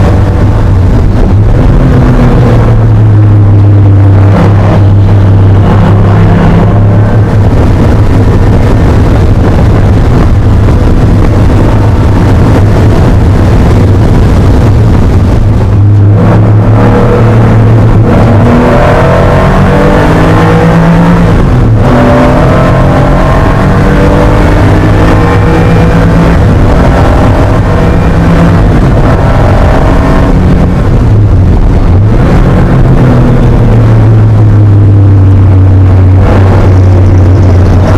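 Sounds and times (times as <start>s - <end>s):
race car engine accelerating: 0.0s - 37.9s.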